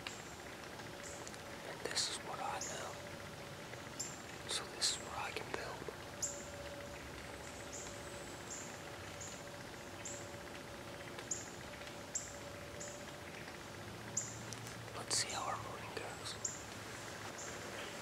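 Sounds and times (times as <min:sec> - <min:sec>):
faint steady hum: 0:00.0 - 0:18.0
faint woodland background: 0:00.0 - 0:18.0.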